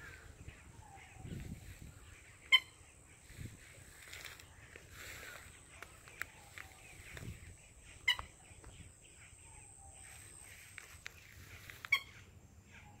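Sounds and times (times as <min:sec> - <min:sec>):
soft bird chirps: 0:00.0 - 0:13.0.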